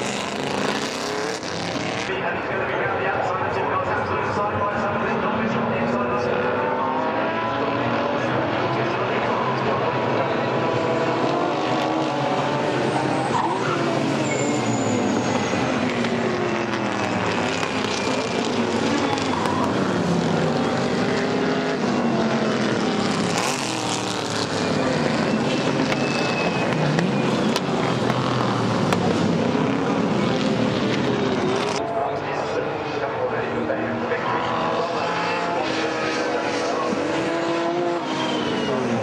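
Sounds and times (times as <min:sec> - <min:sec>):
race cars passing: 0:00.0 - 0:39.0.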